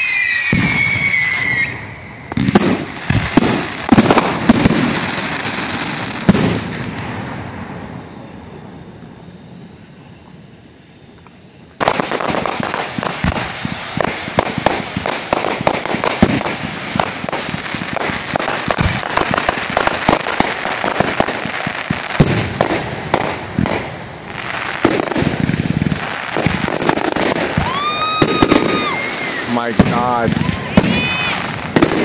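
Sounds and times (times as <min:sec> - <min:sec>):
fireworks crackling and banging: 0:00.0 - 0:09.1, 0:11.2 - 0:32.0.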